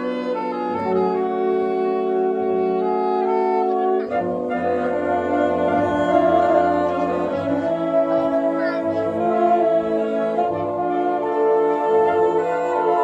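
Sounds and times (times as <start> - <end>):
wind orchestra holding chords: 0.0 - 13.0.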